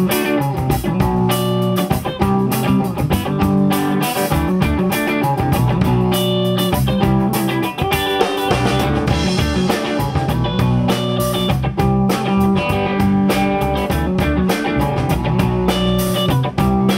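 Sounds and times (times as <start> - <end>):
drum kit: 0.0 - 16.9
electric bass: 0.0 - 16.9
electric guitar: 0.0 - 16.9.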